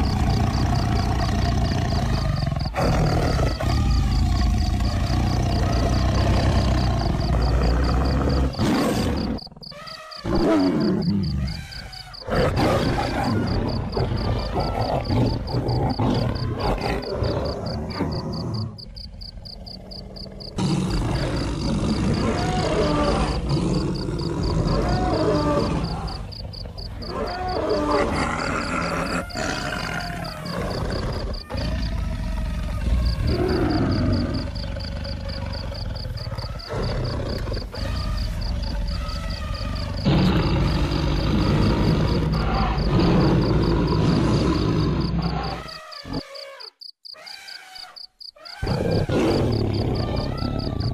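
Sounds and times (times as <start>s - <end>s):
animal roars and grunting growls: 0.0s - 46.4s, 48.5s - 50.9s.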